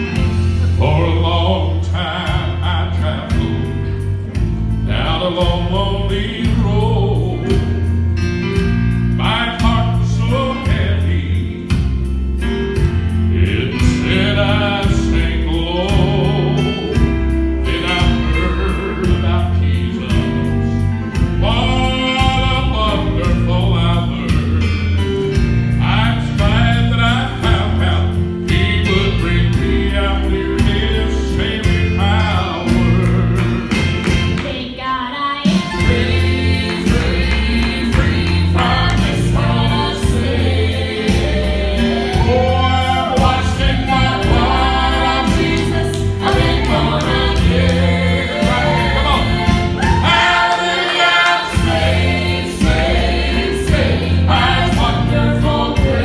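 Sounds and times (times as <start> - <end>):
gospel singing: 0.0 - 56.0
instrumental accompaniment with bass: 0.0 - 56.0.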